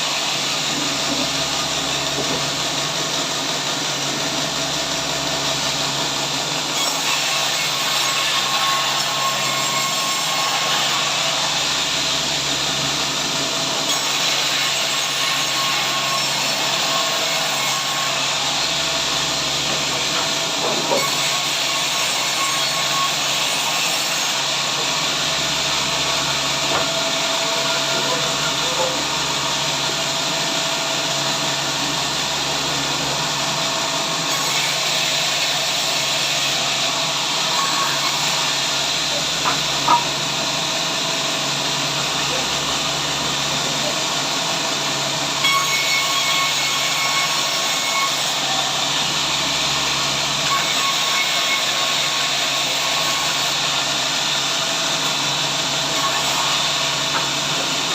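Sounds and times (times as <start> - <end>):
sawmill saw running: 0.0 - 57.9.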